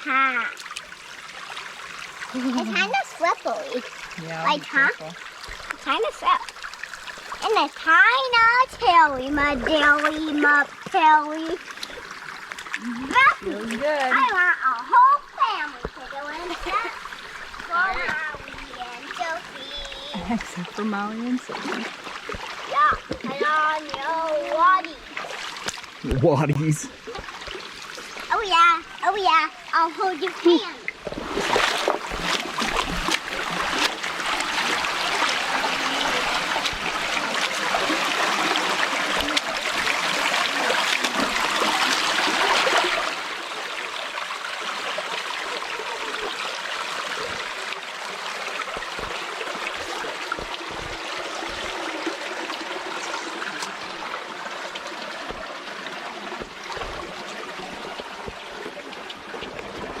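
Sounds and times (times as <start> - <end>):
creek water over rocks: 0.0 - 60.0.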